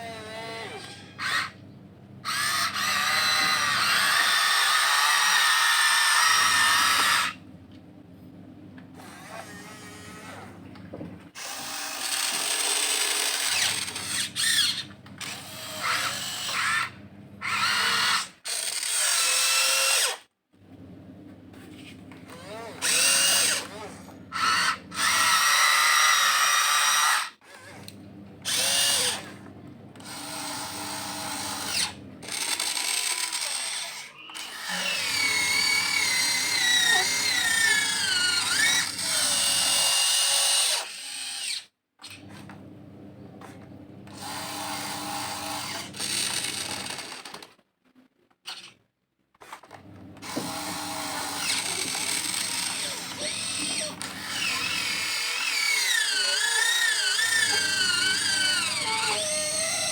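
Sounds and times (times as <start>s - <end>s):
toy excavator motors whining: 0.0s - 1.6s, 2.2s - 7.4s, 8.9s - 20.3s, 21.5s - 29.4s, 30.0s - 42.5s, 43.4s - 47.6s, 48.3s - 59.9s.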